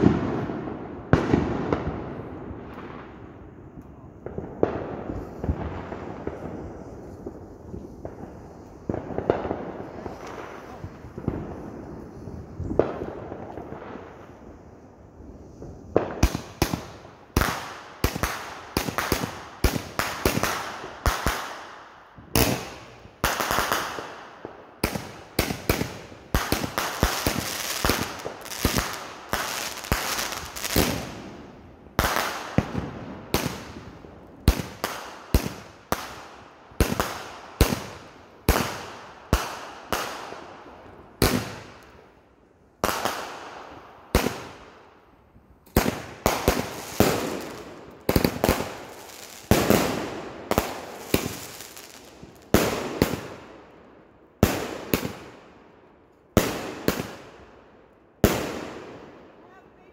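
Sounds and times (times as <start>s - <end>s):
fireworks bursting with sharp bangs: 0.0s - 59.9s.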